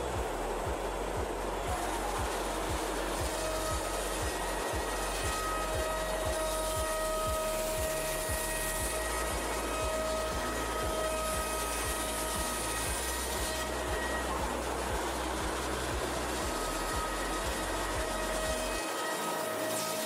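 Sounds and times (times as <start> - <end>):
high whine: 0.0 - 20.0
router spindle whirring: 0.0 - 20.0.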